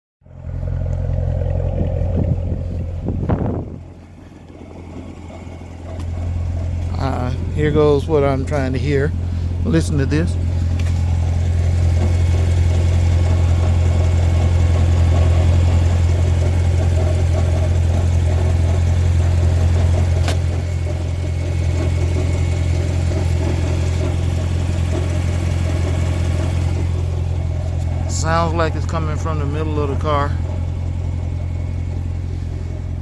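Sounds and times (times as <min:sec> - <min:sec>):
car engine idling: 0:00.2 - 0:33.0.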